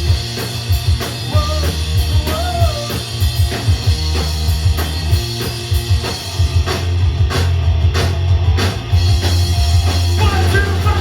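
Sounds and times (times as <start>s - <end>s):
bass guitar: 0.0s - 11.0s
distorted electric guitar: 0.0s - 11.0s
drum beat: 0.0s - 11.0s.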